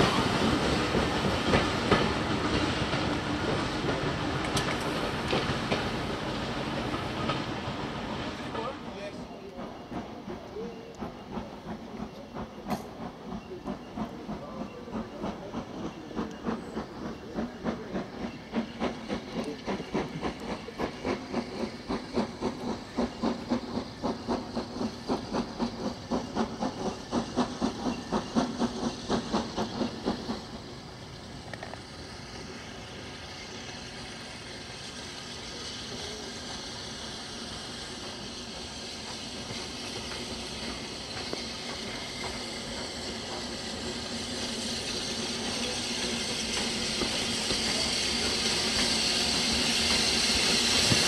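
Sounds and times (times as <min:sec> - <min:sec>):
steam hissing: 0:00.0 - 0:51.0
steam locomotive exhaust beats: 0:00.0 - 0:51.0.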